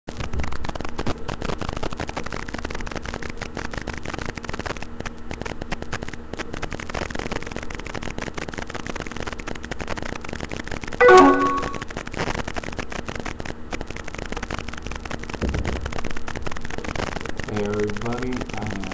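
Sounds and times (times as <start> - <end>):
crackling static: 0.1 - 18.9
rapid irregular clicks: 0.2 - 18.9.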